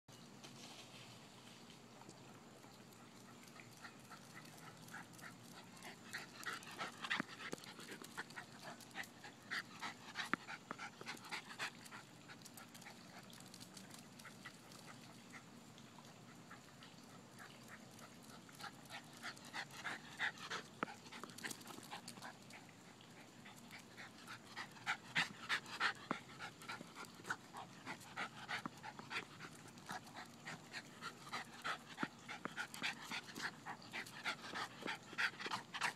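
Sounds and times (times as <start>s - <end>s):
dog panting: 3.0s - 35.9s.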